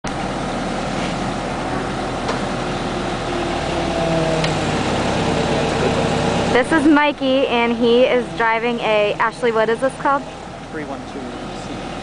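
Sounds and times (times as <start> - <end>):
excavator diesel engine running: 0.0 - 12.0
steady tones: 0.2 - 12.0.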